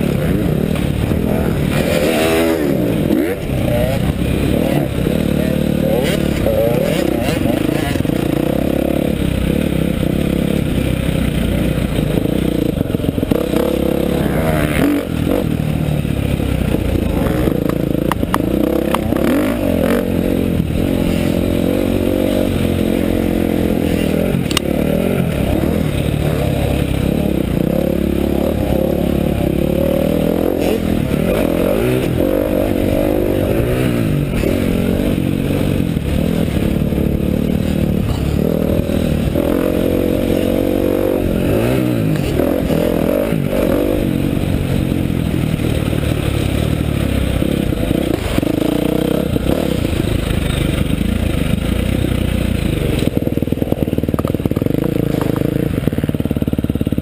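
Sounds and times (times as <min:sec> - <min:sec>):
clatter: 0:00.0 - 0:57.0
motocross bike engine revving: 0:00.0 - 0:57.0.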